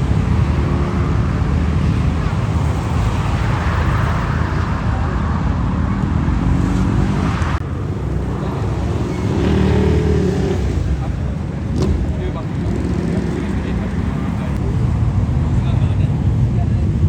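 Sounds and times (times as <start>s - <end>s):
motorcycle engines running: 0.0s - 17.0s
road traffic noise: 0.0s - 17.0s.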